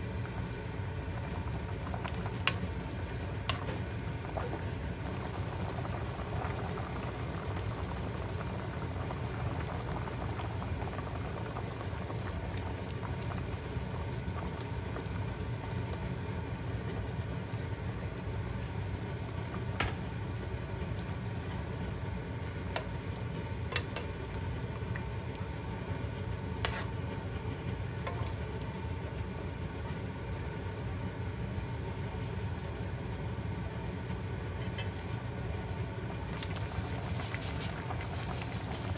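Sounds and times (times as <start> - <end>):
pot boiling and bubbling: 0.0 - 38.9.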